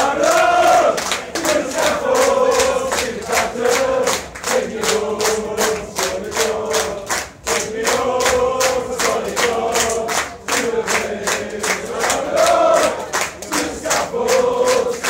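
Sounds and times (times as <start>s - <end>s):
crowd singing a chant: 0.0s - 15.0s
rhythmic hand-clapping: 0.0s - 15.0s.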